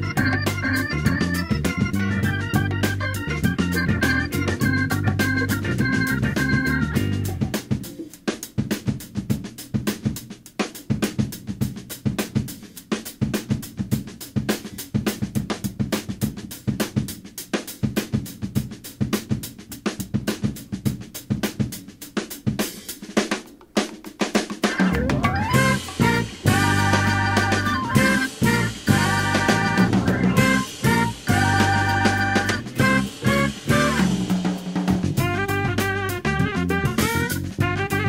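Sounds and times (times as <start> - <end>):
drum kit playing fast beat: 0.0 - 38.0.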